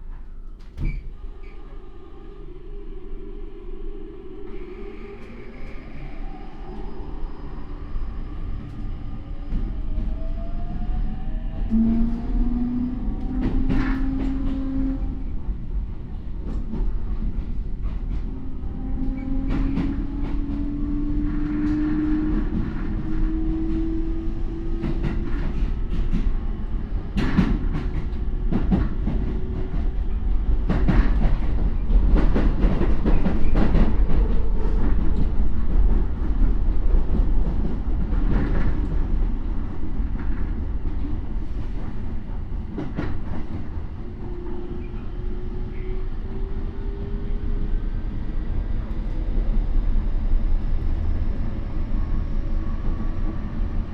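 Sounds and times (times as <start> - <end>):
wheels rumbling on rail: 4.5 - 53.9.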